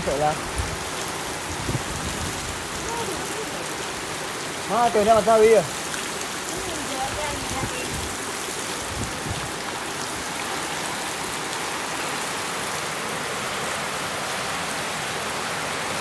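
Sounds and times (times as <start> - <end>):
heavy rain splashing into water: 0.0 - 16.0.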